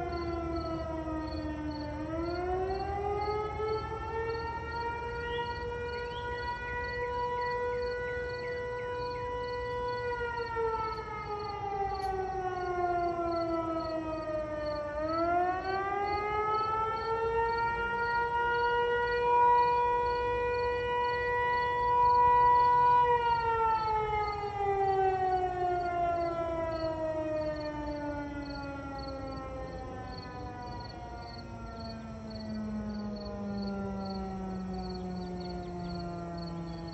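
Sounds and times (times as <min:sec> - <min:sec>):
fire siren wailing: 0:00.0 - 0:36.9.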